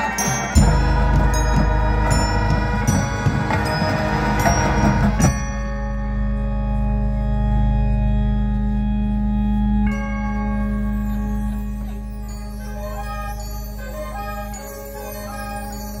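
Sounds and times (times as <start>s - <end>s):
mallet percussion bell-like notes: 0.0s - 16.0s
marching band held chords: 0.0s - 16.0s.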